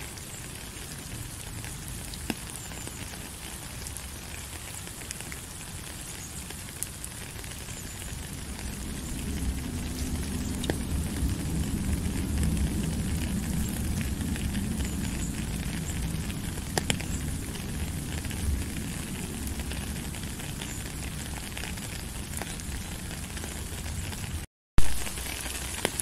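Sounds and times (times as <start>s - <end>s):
raindrops ticking: 0.0s - 26.0s
steady rain: 0.0s - 26.0s.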